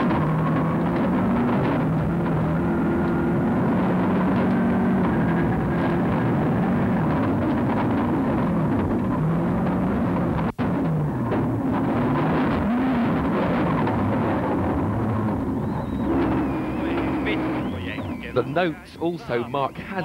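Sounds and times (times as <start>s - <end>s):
rally car engine revving: 0.0s - 20.0s
road noise: 0.0s - 20.0s.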